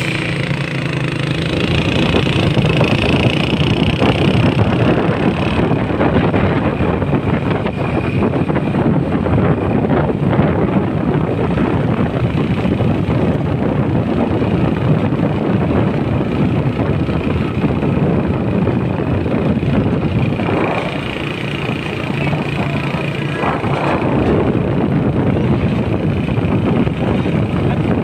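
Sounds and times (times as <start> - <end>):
truck diesel engine rumbling: 0.0 - 28.0
wind noise on microphone: 0.0 - 28.0.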